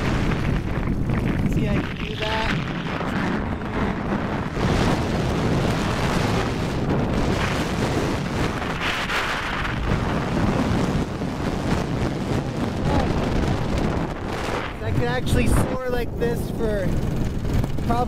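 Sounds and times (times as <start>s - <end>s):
two-stroke engine running: 0.0s - 18.0s
wind buffeting microphone: 0.0s - 18.0s.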